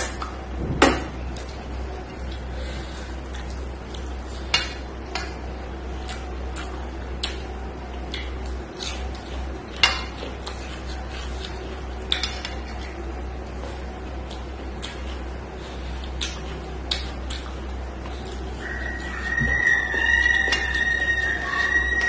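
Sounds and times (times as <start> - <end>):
steady low hum: 0.0 - 22.0
chewing: 1.2 - 22.0.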